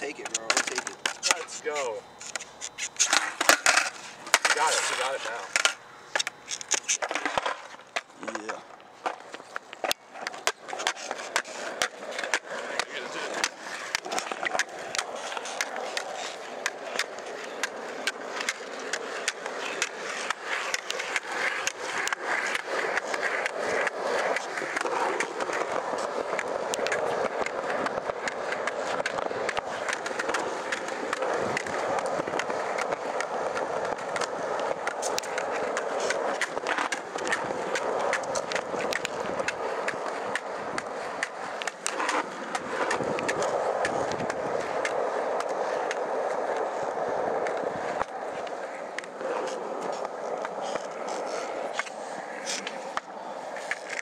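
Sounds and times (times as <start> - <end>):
skateboard clicks and knocks: 0.0 - 54.0
skateboard wheels rolling: 0.0 - 54.0.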